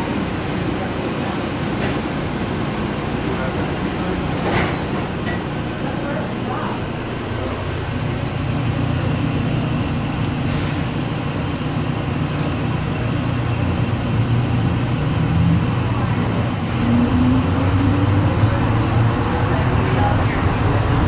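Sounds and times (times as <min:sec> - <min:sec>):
train rumbling through tunnel: 0:00.0 - 0:21.0.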